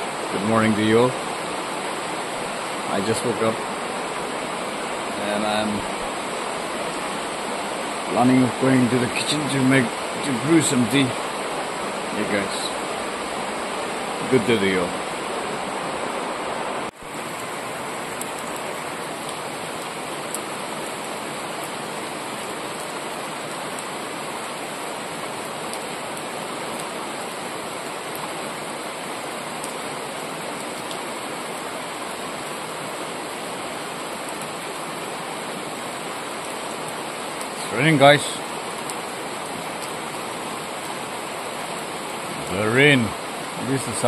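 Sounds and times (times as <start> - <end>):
rain falling on trees: 0.0 - 44.0.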